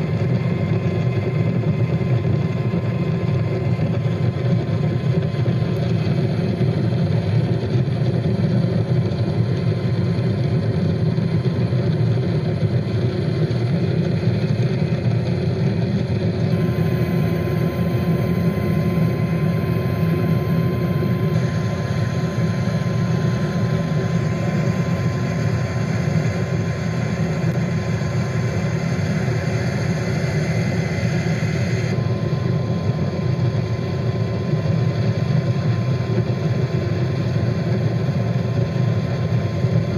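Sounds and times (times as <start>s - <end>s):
aircraft engine drone: 0.0s - 39.9s
faint steady whine: 0.0s - 39.9s.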